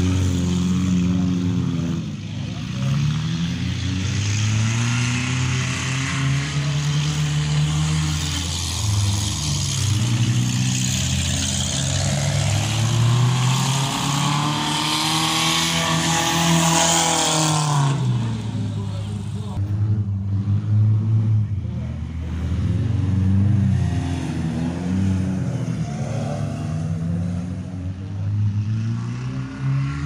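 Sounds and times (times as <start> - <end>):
car engines revving: 0.0 - 30.0.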